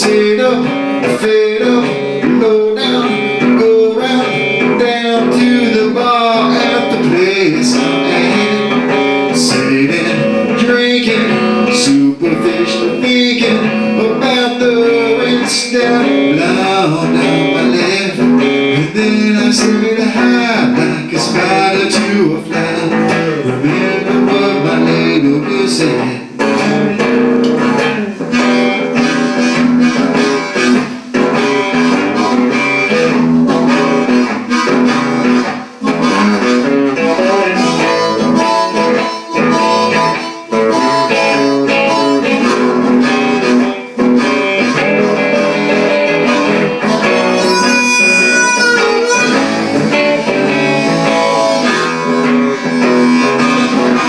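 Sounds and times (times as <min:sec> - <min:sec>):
blues harmonica solo: 0:00.0 - 0:54.0
electric guitar backing: 0:00.0 - 0:54.0.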